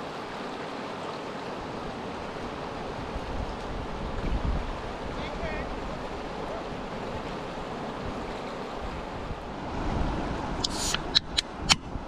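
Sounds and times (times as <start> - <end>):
river water rushing: 0.0 - 12.0
wind on microphone: 2.2 - 12.0.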